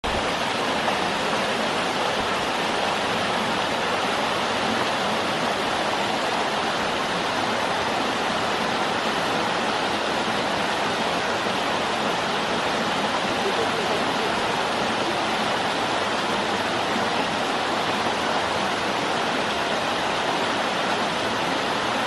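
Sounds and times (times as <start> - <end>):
waterfall rushing roar: 0.0 - 22.0.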